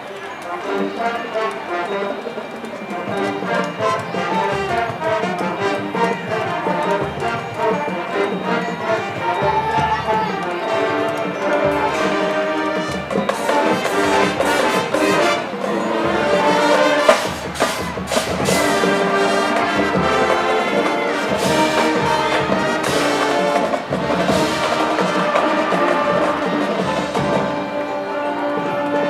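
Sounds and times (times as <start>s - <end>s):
brass chords: 0.0s - 29.0s
marching drums: 0.0s - 29.0s.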